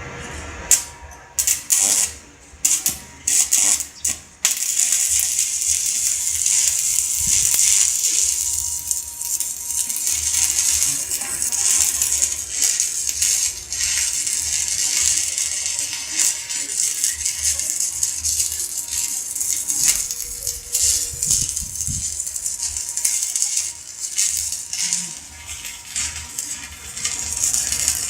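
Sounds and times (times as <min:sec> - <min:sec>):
arc striking crackles: 0:00.0 - 0:28.0
arc welding crackling sizzle: 0:00.0 - 0:28.0.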